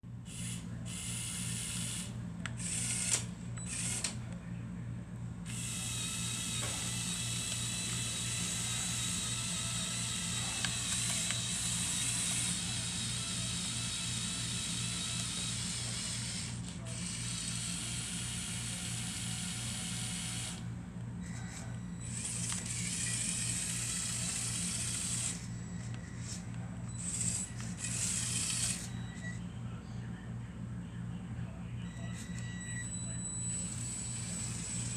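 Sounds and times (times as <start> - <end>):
small electric motors whirring: 0.3 - 4.2, 5.5 - 29.4, 32.0 - 34.9.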